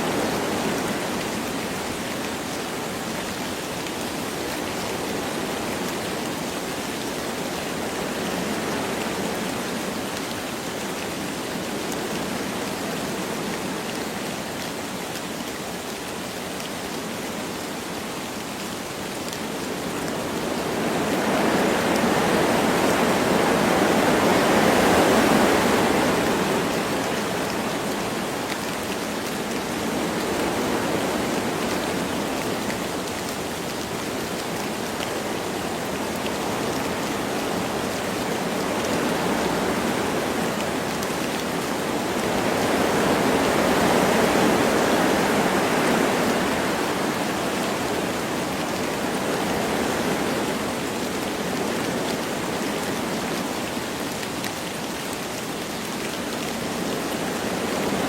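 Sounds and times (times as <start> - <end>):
light rain: 0.0 - 58.0
wind through trees: 0.0 - 58.0.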